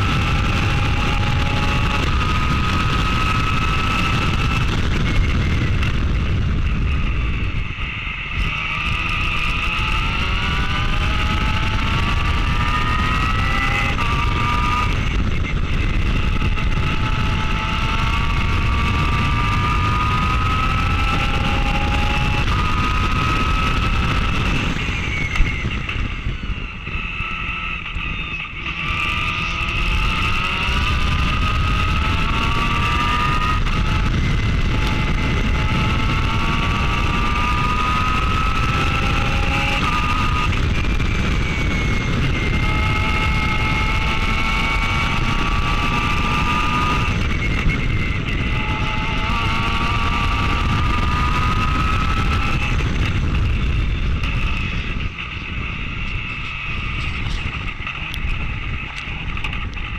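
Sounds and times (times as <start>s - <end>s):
race car engine accelerating: 0.0s - 59.8s.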